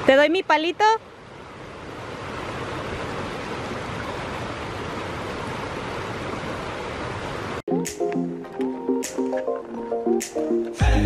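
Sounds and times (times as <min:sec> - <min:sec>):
creek rushing: 0:00.0 - 0:10.8.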